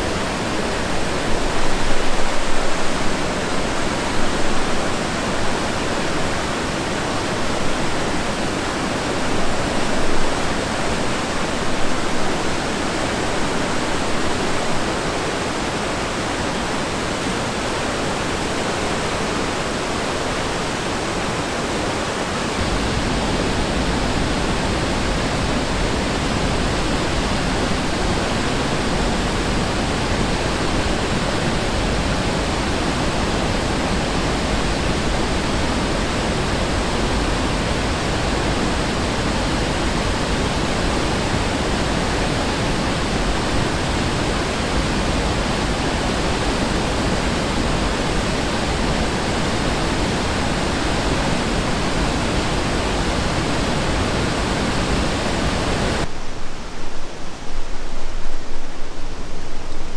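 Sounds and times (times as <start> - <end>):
river water roaring: 0.0 - 59.9.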